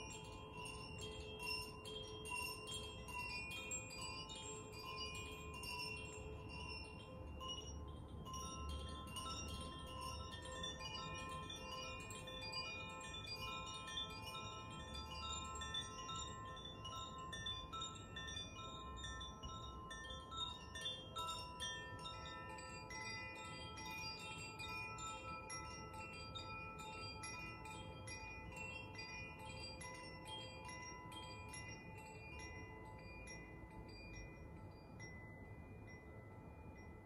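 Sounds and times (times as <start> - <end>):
wind chimes ringing: 0.0 - 37.0.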